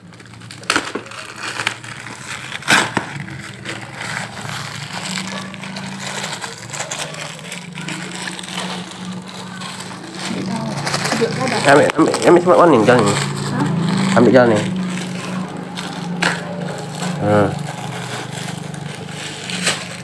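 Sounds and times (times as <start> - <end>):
plastic wrapping crinkling: 0.0 - 20.0
sharp cracks: 0.4 - 20.0.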